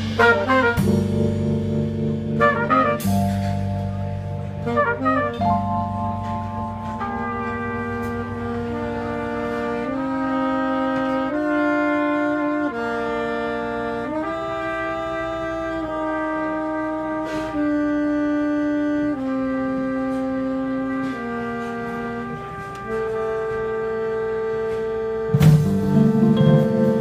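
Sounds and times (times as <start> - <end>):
trumpet and saxophone harmony: 0.0 - 27.0.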